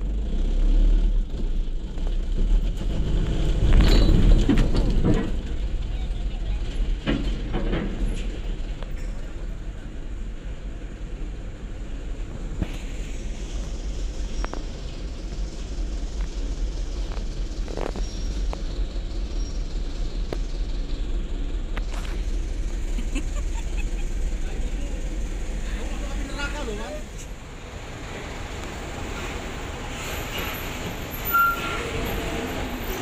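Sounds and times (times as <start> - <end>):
vehicle engines rumbling: 0.0 - 33.0.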